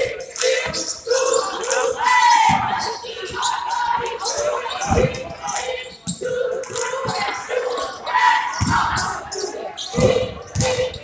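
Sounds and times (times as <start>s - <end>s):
shouts echoing: 0.0s - 11.0s
sneakers squeaking: 0.2s - 11.0s.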